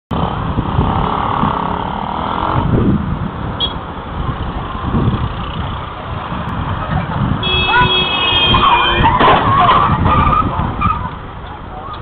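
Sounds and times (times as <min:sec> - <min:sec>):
motorcycles passing: 0:00.1 - 0:12.0.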